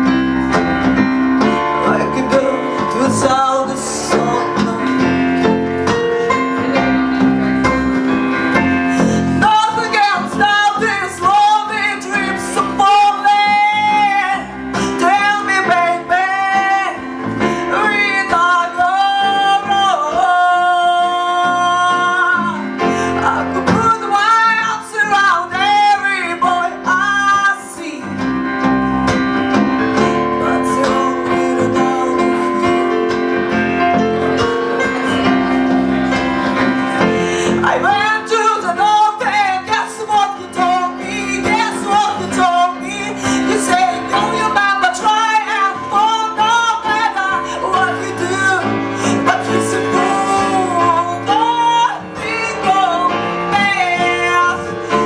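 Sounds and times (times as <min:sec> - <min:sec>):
instrumental accompaniment: 0:00.0 - 0:55.0
person singing: 0:00.0 - 0:55.0.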